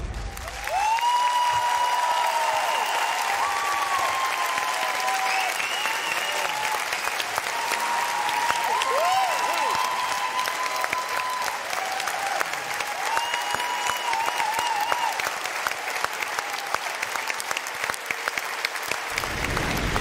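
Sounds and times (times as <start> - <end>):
audience clapping: 0.0 - 20.0.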